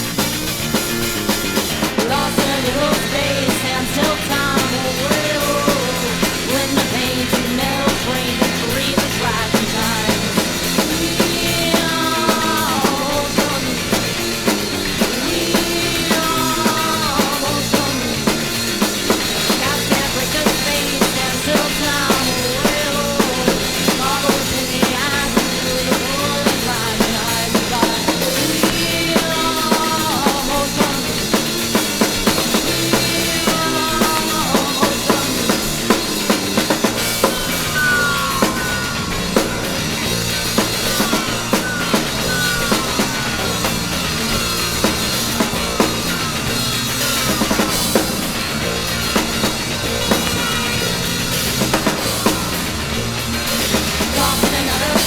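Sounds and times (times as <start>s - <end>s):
drum beat: 0.0s - 55.0s
falling sliding guitar notes: 0.0s - 55.0s
punk rock band playing: 0.0s - 55.0s.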